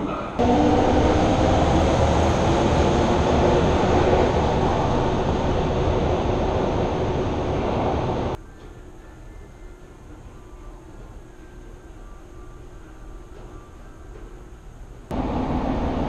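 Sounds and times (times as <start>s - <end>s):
subway train pulling out: 0.0s - 16.0s.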